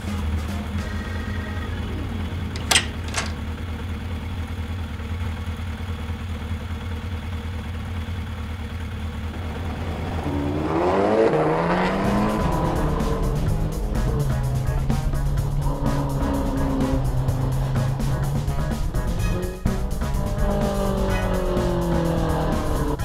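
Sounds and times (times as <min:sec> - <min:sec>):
motorbike engine idling and revving: 0:00.0 - 0:23.0.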